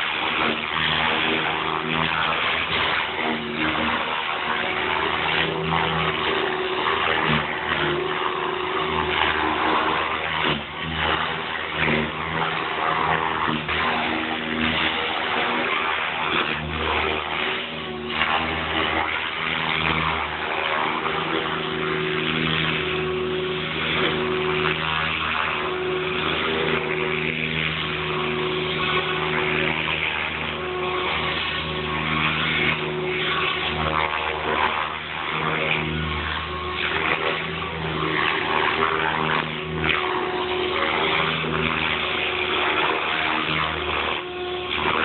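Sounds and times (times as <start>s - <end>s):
toy helicopter rotor hum: 0.0s - 45.0s.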